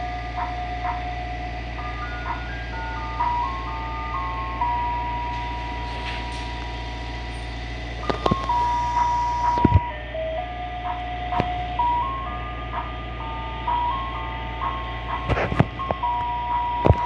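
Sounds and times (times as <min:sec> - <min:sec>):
ice cream truck jingle: 0:00.0 - 0:17.0
low hum: 0:00.0 - 0:17.0.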